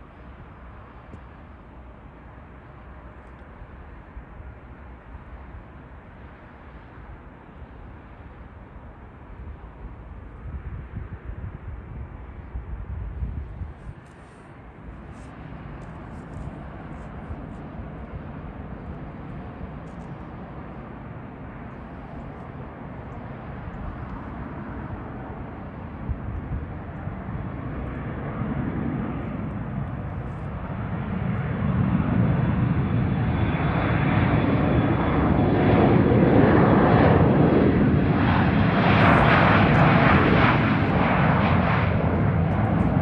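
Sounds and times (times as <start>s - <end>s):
jet engines at takeoff: 0.0s - 43.0s.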